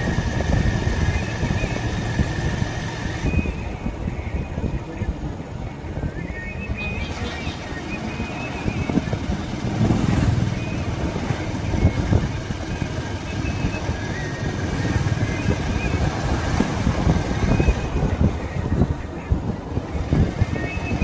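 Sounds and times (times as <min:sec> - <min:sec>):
motorcycle engine rumble: 0:00.0 - 0:21.0
road noise: 0:00.0 - 0:21.0.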